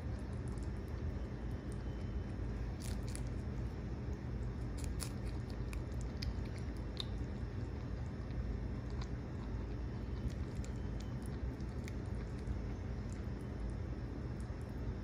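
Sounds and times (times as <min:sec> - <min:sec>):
low hum: 0:00.0 - 0:15.0
rabbit chewing: 0:00.0 - 0:15.0.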